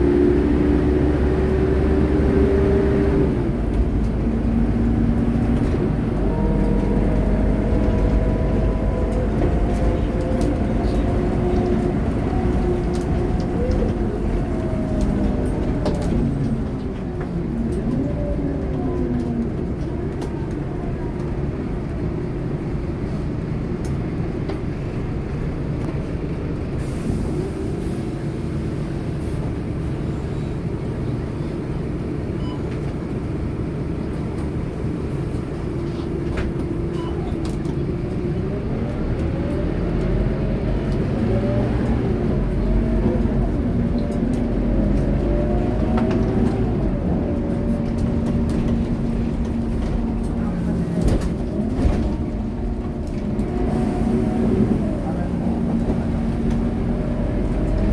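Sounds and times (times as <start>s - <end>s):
bus diesel engine running: 0.0s - 57.9s.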